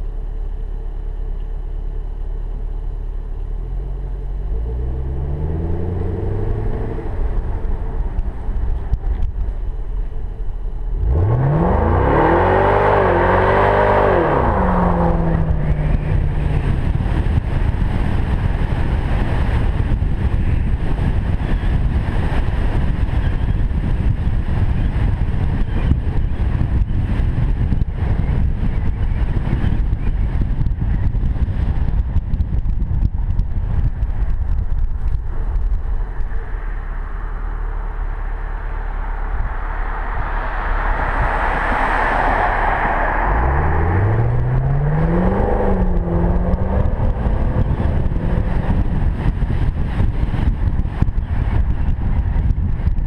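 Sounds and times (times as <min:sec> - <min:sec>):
wind and road noise: 0:00.0 - 0:53.0
car engine revving: 0:03.6 - 0:32.7, 0:33.3 - 0:52.2.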